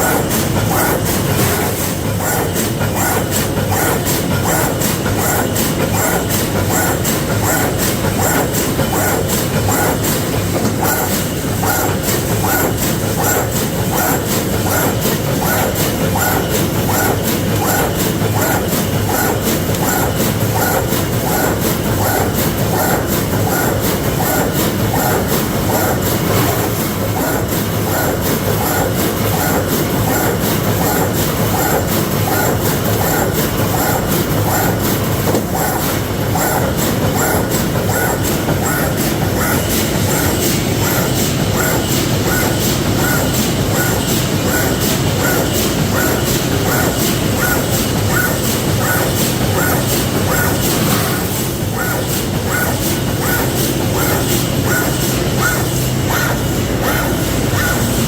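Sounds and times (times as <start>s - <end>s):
mechanical clatter: 0.0s - 58.0s
welding machine strokes: 0.0s - 58.0s.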